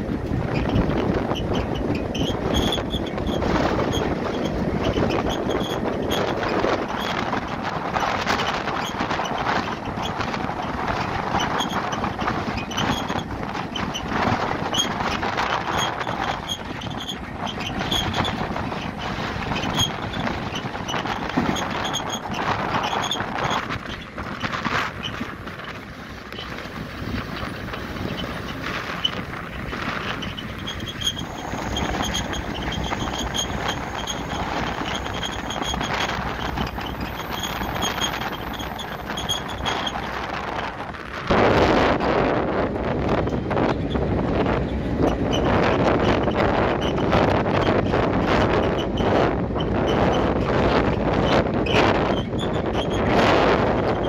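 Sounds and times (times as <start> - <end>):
freight train rumbling: 0.0 - 54.0
train knocks and rattles: 0.0 - 54.0.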